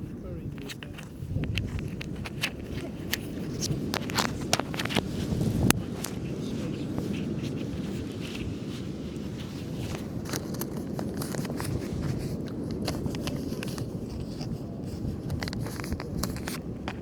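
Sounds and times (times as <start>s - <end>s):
small clicks and scrapes: 0.0s - 17.0s.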